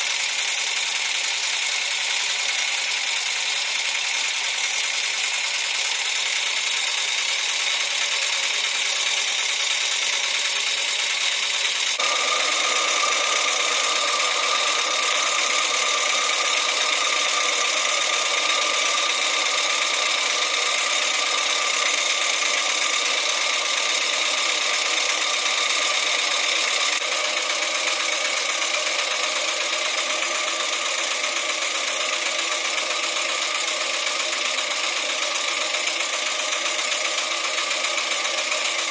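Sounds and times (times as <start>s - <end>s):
steam engine running: 0.0s - 38.9s
steam hissing: 1.7s - 38.9s.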